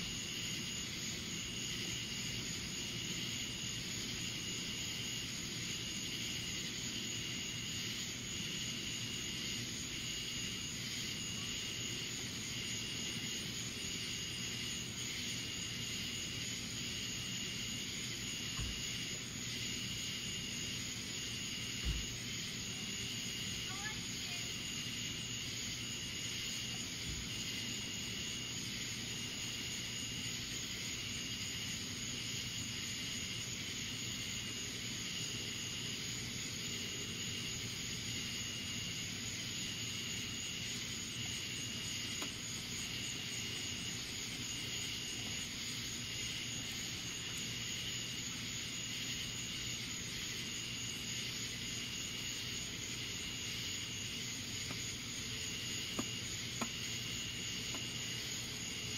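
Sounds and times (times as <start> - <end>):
pulsing insect call: 0.0 - 58.9.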